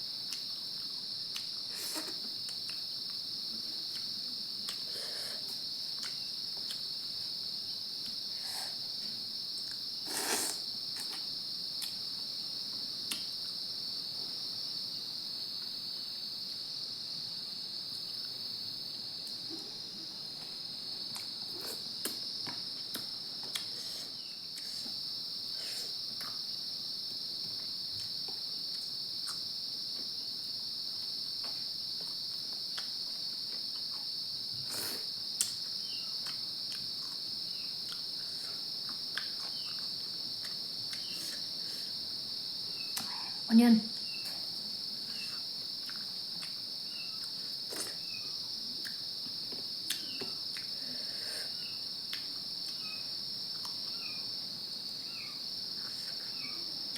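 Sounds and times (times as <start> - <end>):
crickets chirping: 0.0 - 56.9.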